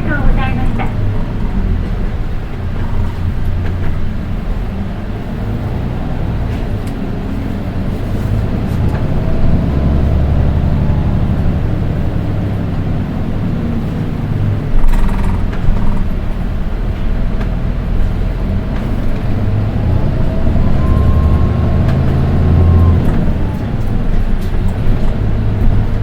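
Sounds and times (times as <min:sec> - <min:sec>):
bus diesel engine running: 0:00.0 - 0:26.0
faint high engine whine: 0:00.0 - 0:26.0.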